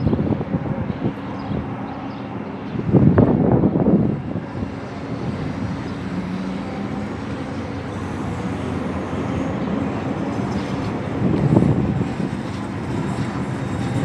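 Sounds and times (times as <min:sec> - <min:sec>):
train approaching rumble: 0:00.0 - 0:14.0.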